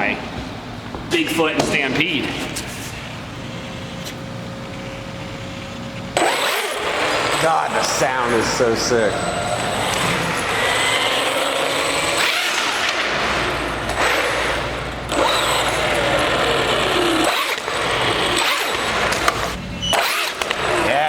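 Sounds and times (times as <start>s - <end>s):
rc truck motor whine: 3.0s - 21.0s.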